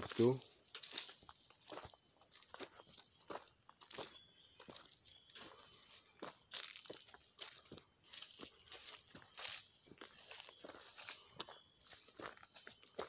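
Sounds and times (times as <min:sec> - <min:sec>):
footsteps on gravel: 0:00.0 - 0:13.0
high-pitched insect drone: 0:00.0 - 0:13.0.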